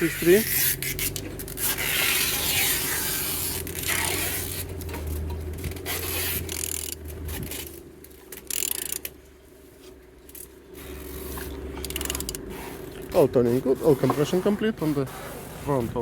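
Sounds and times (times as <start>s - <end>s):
engine turned over by hand: 0.0s - 9.2s, 10.2s - 14.7s.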